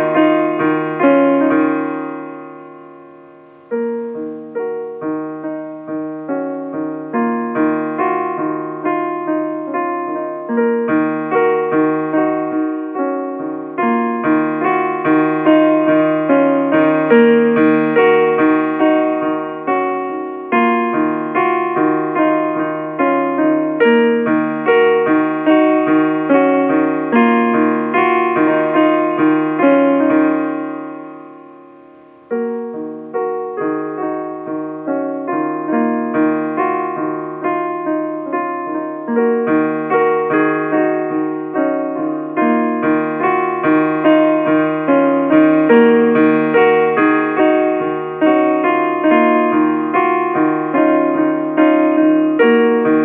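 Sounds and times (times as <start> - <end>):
piano keyboard music: 0.0 - 53.0.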